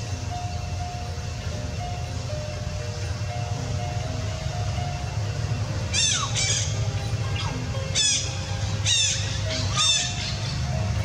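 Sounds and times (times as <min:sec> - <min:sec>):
slow tune of thin held notes: 0:00.0 - 0:11.0.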